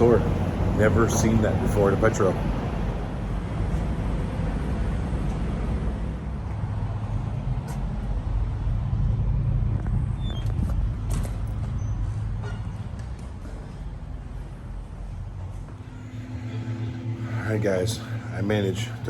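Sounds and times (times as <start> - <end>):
diesel truck engines idling: 0.0 - 19.0.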